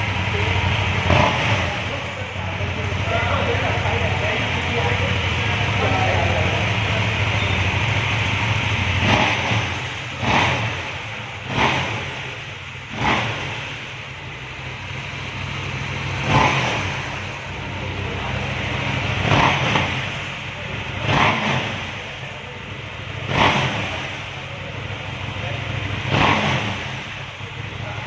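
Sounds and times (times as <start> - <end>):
motorcycle engine idling: 0.0 - 28.0
motorcycle throttle blips: 0.0 - 28.0.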